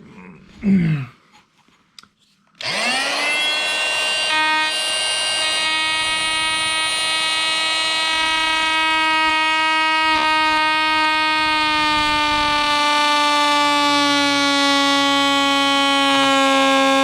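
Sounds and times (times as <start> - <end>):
multi-tool motor whine cutting stone: 2.6 - 17.0.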